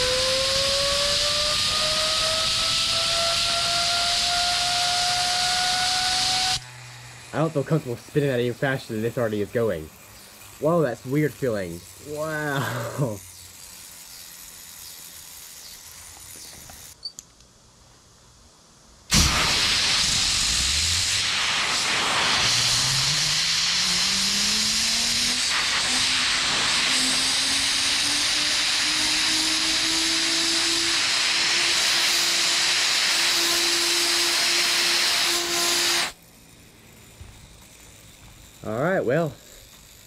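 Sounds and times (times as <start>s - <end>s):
compressed air hissing: 0.0s - 17.0s, 19.1s - 40.0s
gyroscope rotor humming: 0.0s - 17.1s, 19.9s - 40.0s.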